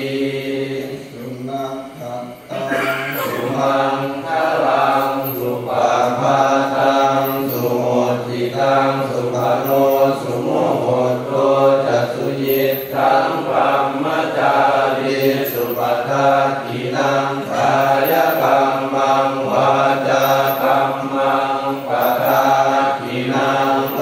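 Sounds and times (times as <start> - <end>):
low steady chanting: 0.0 - 24.0.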